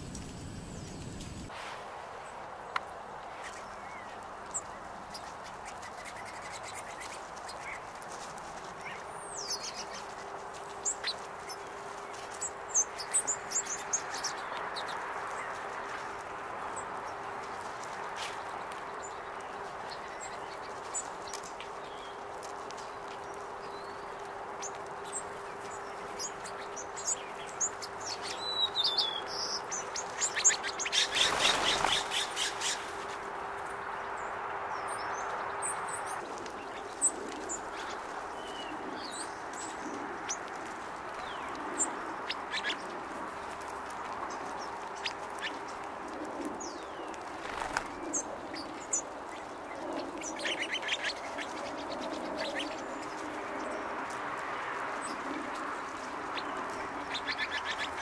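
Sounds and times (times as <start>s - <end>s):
songbirds chirping: 0.0s - 1.5s, 2.1s - 58.0s.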